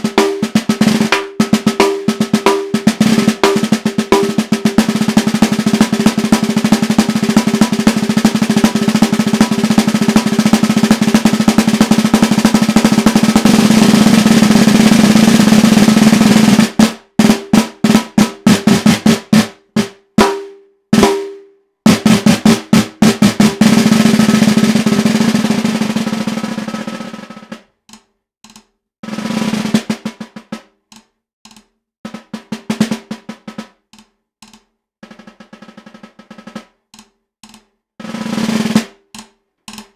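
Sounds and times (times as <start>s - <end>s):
snare drum roll and strokes: 0.0s - 27.6s, 29.0s - 30.7s, 32.0s - 33.8s, 35.0s - 36.8s, 38.0s - 39.0s.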